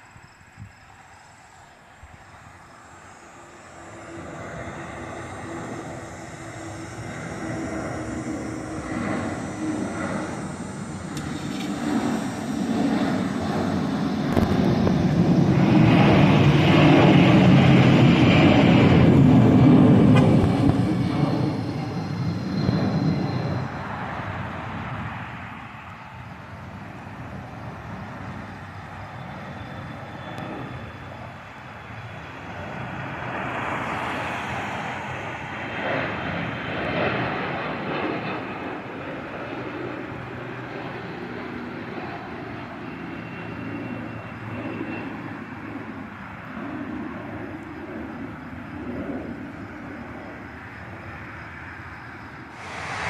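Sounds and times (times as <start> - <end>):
airliner engines passing: 0.0 - 53.0.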